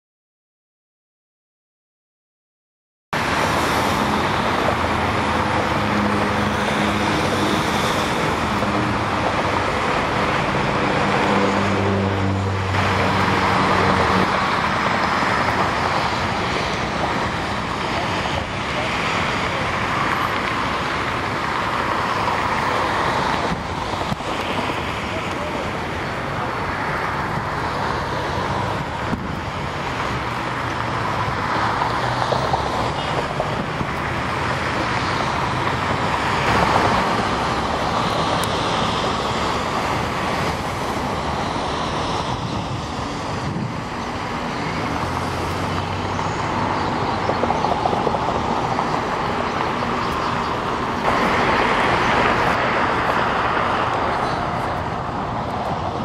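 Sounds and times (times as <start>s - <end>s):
jet engines roaring: 3.2s - 56.0s.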